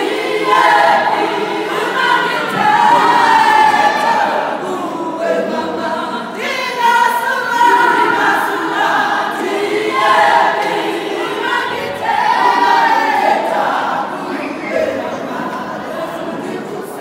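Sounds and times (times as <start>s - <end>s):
women's choir singing: 0.0s - 17.0s.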